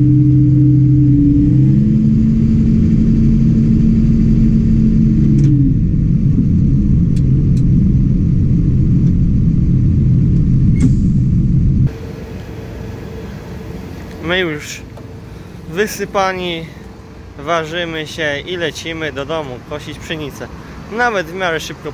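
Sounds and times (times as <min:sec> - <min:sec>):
tractor engine running: 0:00.0 - 0:20.8.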